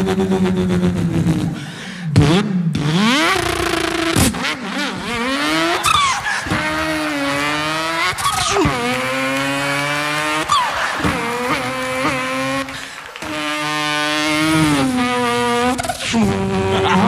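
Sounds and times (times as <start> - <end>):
man imitating car engine revving: 0.0 - 17.0.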